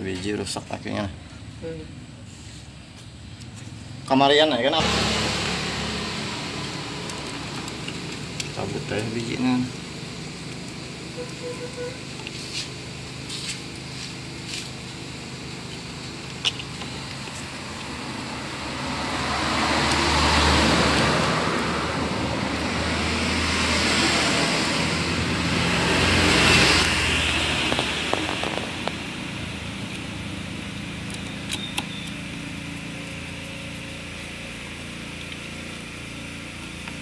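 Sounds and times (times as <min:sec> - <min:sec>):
road vehicles passing by: 0:00.0 - 0:37.0.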